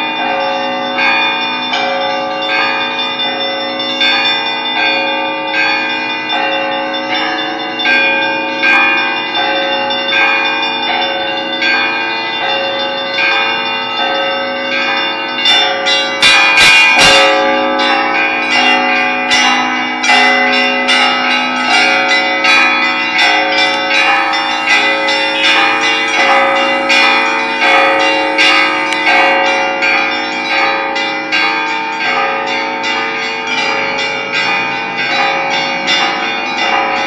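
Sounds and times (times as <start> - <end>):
church bells ringing: 0.0 - 37.0.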